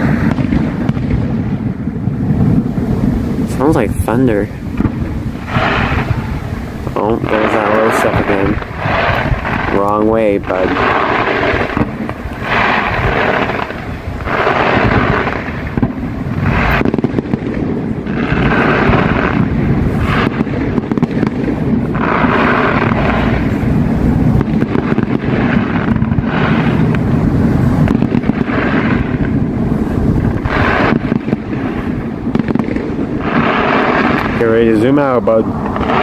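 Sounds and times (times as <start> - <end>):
fireworks bangs and crackling: 0.0 - 36.0
steady low rumble: 0.0 - 36.0.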